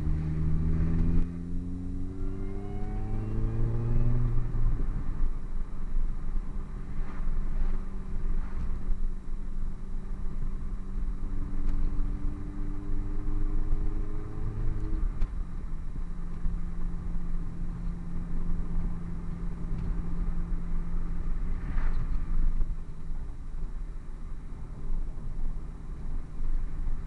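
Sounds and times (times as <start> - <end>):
car engine and exhaust drone: 0.0 - 27.0.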